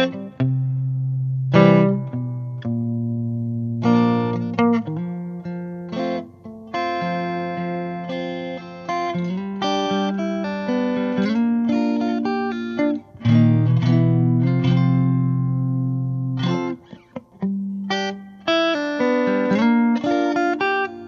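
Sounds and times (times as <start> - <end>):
plucked guitar music: 0.0 - 21.0.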